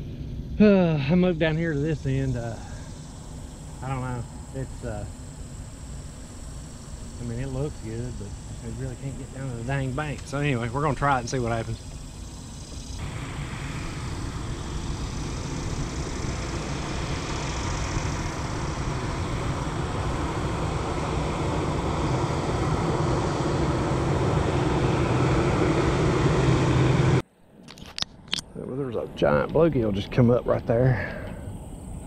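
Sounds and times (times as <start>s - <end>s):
engine rumble with low hum: 0.0s - 27.2s.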